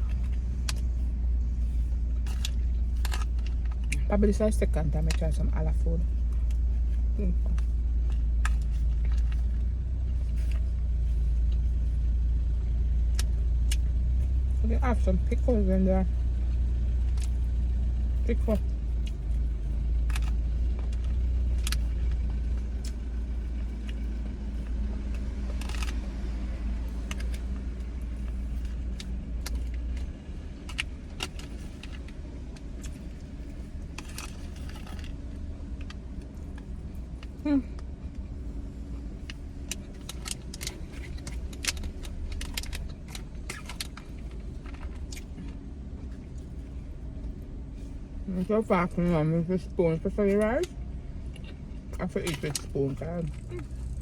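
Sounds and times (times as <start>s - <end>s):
low rumble: 0.0s - 54.0s.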